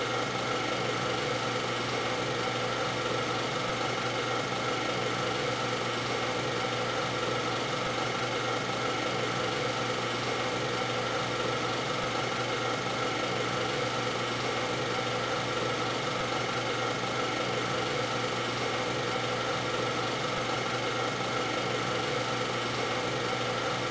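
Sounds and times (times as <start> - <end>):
film projector whirring: 0.0 - 23.9.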